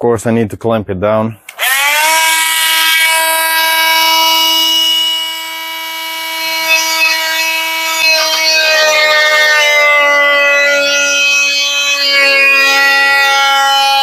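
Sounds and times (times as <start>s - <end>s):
oscillating multitool buzzing: 1.6s - 14.0s.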